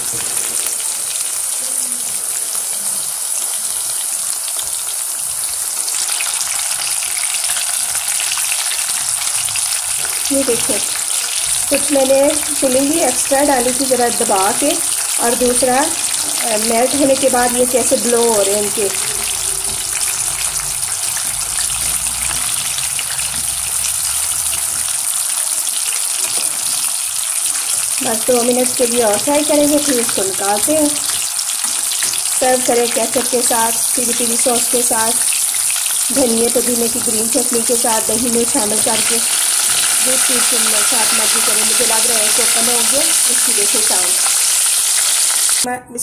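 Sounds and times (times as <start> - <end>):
food deep-frying in oil: 0.0 - 45.7.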